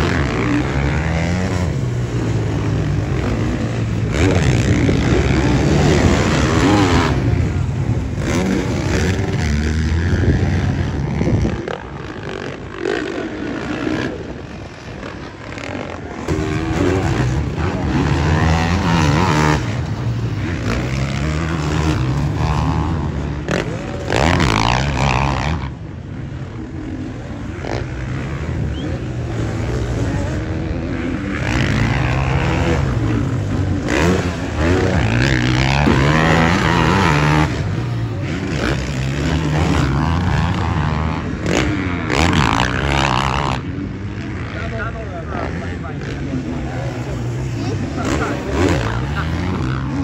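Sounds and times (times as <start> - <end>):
motocross bike engines revving: 0.0 - 50.0.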